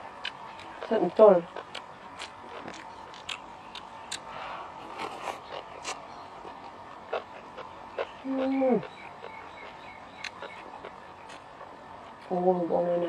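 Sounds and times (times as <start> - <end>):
wet chewing and lip smacks: 0.1 - 12.3.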